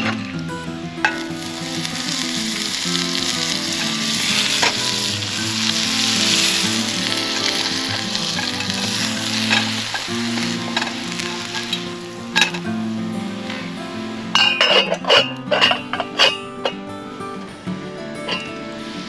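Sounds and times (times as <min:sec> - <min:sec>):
potato pancake sizzling in skillet: 0:00.0 - 0:16.9.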